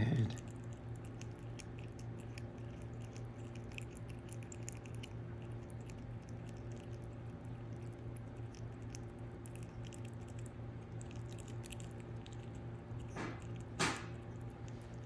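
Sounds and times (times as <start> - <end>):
prairie dog chewing clicks: 0.3 - 15.0.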